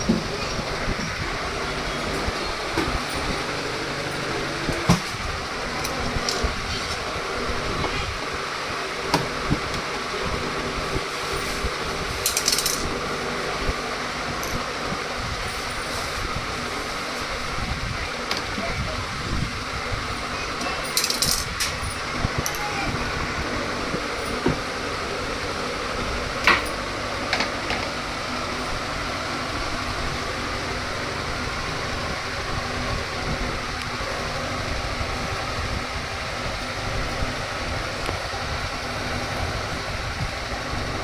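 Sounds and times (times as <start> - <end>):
washing machine running: 0.0 - 41.0.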